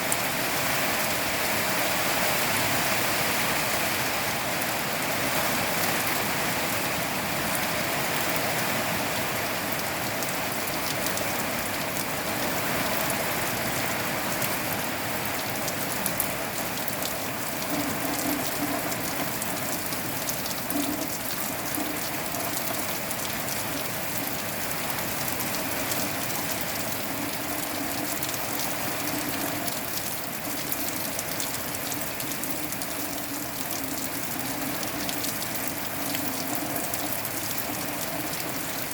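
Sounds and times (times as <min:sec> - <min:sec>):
rain drops ticking on surface: 0:00.0 - 0:38.9
rain hiss: 0:00.0 - 0:38.9.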